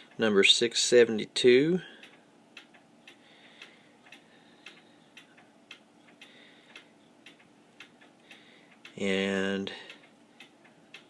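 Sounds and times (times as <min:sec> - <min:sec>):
faint clock ticking: 0:00.0 - 0:11.0.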